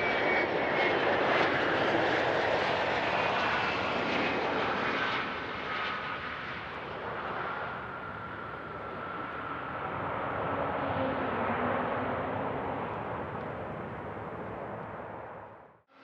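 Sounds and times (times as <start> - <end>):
jet engines passing: 0.0 - 15.7.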